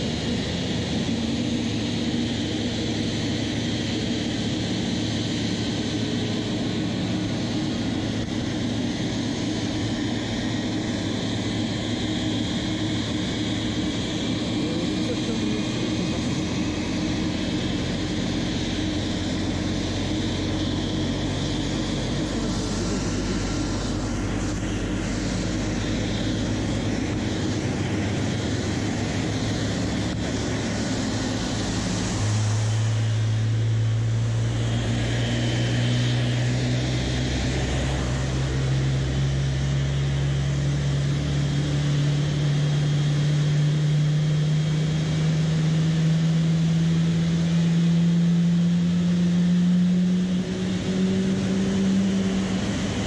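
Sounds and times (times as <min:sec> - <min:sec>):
jet engines idling: 0:00.0 - 0:53.0
low drone rising in pitch: 0:00.0 - 0:53.0.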